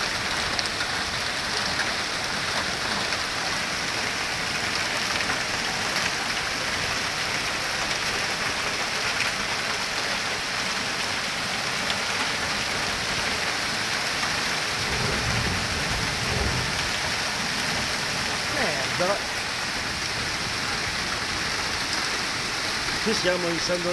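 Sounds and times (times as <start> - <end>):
hail and rain pelting down: 0.0 - 23.9
hailstones ticking on hard surfaces: 0.0 - 23.9.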